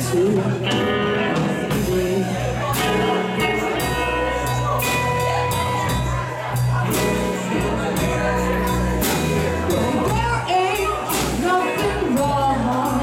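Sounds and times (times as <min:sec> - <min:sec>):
bass guitar: 0:00.0 - 0:13.0
distorted electric guitar: 0:00.0 - 0:13.0
drum kit with cymbals: 0:00.0 - 0:13.0.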